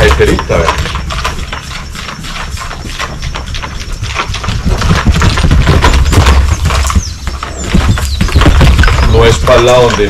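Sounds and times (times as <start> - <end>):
horse hooves knocking and scuffing: 0.0 - 10.0.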